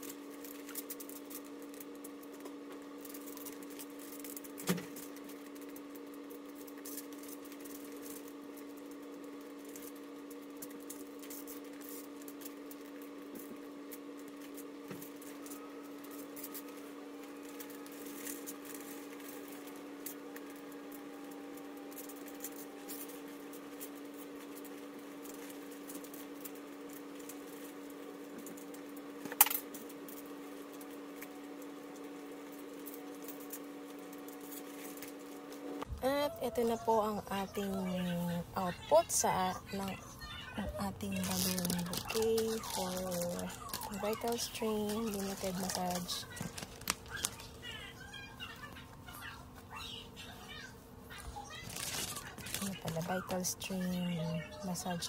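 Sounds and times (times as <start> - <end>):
plastic sheet crinkling: 0.0 - 48.8, 51.1 - 55.0.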